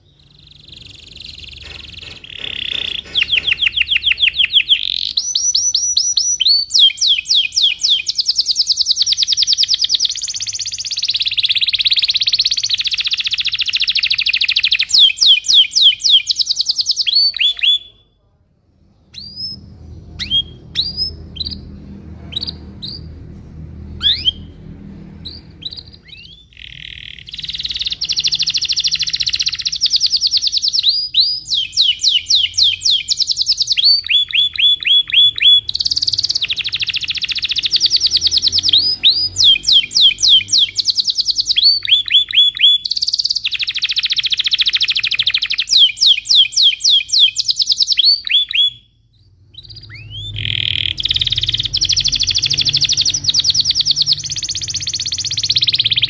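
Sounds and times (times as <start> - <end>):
canary singing trills: 0.0 - 18.1, 18.9 - 56.0.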